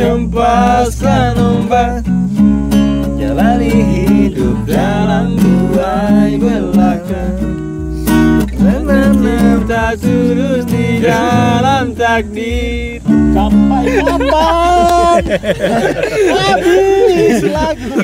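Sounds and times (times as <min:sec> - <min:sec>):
bass line: 0:00.0 - 0:18.0
strummed acoustic guitar: 0:00.0 - 0:18.0
person singing: 0:03.1 - 0:18.0.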